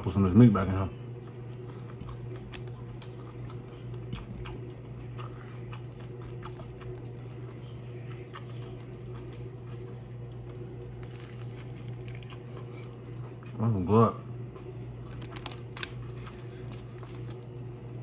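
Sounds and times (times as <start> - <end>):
steady low hum: 0.0 - 18.0
chewing: 1.2 - 13.6, 14.5 - 17.6
small clicks and crackles of food: 1.2 - 13.6, 14.5 - 17.6.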